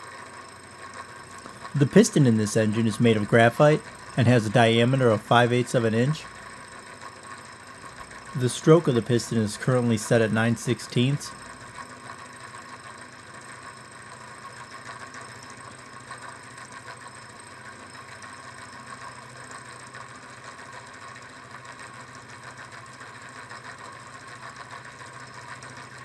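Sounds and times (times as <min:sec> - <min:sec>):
small engine mechanical rattle: 0:00.0 - 0:26.0.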